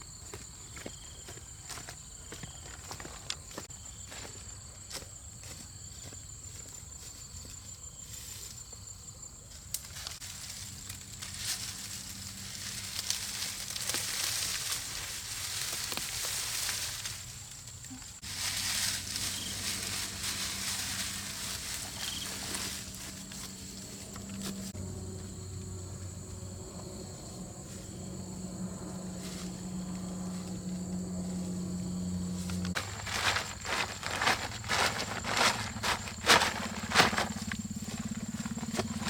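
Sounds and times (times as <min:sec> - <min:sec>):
high insect trill: 0:00.0 - 0:39.0.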